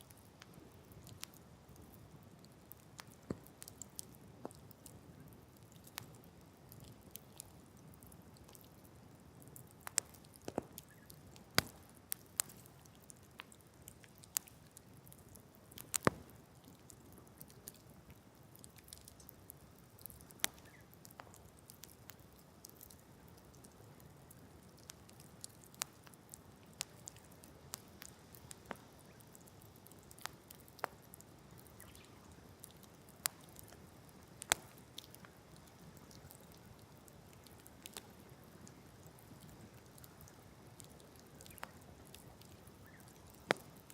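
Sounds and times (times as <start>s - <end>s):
campfire crackling: 0.0s - 43.9s
faint low hiss: 0.0s - 43.9s.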